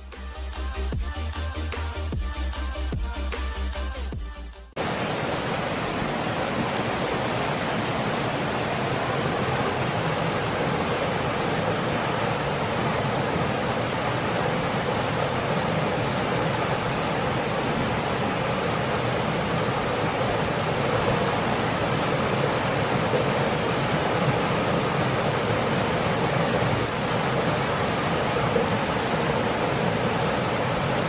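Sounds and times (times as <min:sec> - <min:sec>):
stream water rushing: 0:04.8 - 0:31.0.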